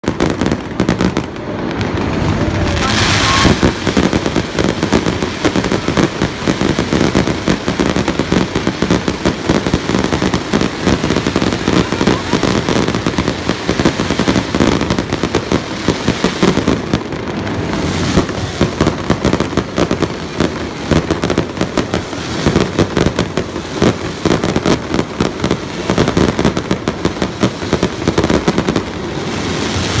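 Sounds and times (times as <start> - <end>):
fireworks and firecrackers crackling: 0.0 - 30.0.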